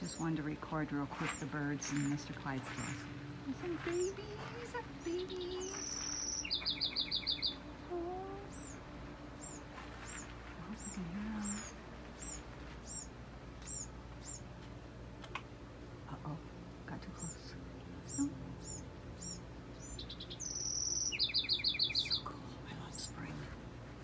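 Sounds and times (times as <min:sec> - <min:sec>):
baby birds chirping: 0:01.1 - 0:08.8, 0:09.4 - 0:14.5, 0:17.1 - 0:23.4.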